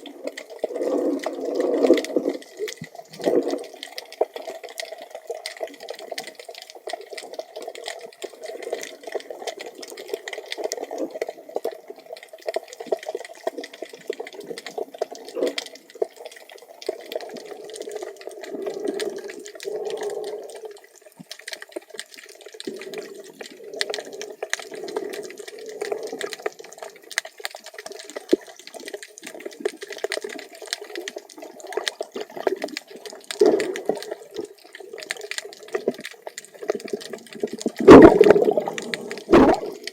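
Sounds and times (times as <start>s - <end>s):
muffled underwater rushing and bubbling: 0.0s - 39.9s.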